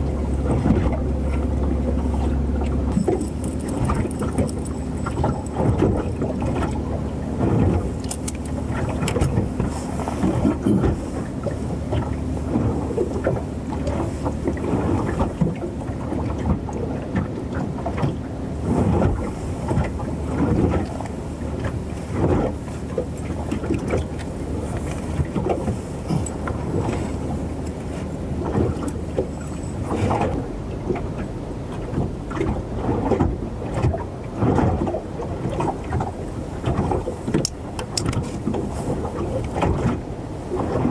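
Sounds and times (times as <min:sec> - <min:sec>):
low steady drone: 0:00.0 - 0:40.9
water lapping against boat hull: 0:00.0 - 0:40.9.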